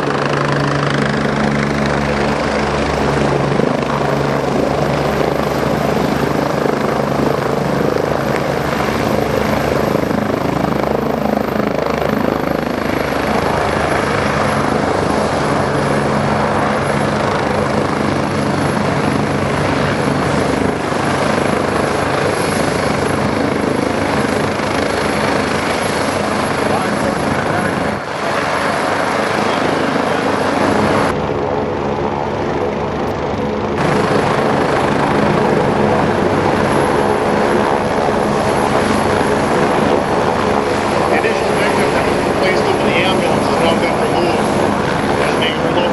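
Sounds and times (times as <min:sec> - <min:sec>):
helicopter rotor and engine: 0:00.0 - 0:45.9
high turbine whine: 0:00.0 - 0:45.9.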